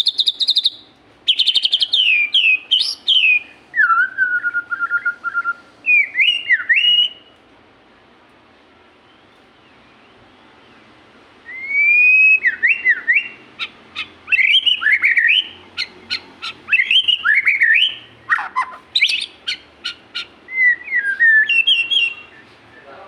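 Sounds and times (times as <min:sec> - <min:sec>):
songbird whistling: 0:00.0 - 0:07.4, 0:11.4 - 0:23.0.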